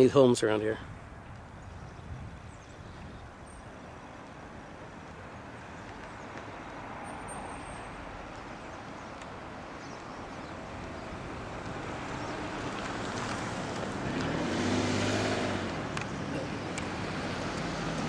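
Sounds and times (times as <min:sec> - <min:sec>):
tyre and engine noise: 0:00.0 - 0:18.0
engine hum: 0:01.2 - 0:18.0.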